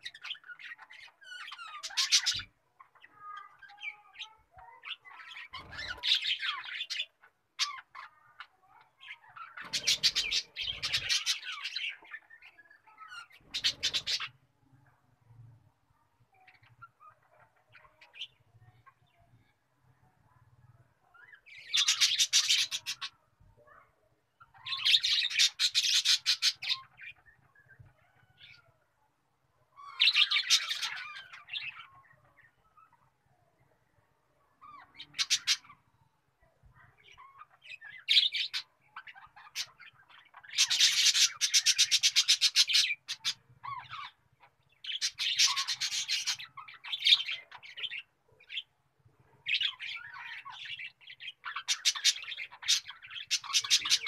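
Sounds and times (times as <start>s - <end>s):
small birds twittering: 0.0s - 54.0s.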